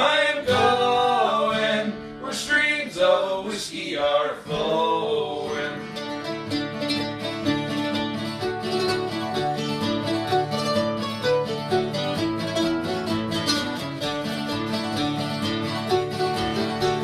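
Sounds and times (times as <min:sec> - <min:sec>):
band playing plucked strings: 0:00.0 - 0:02.4, 0:04.4 - 0:17.0.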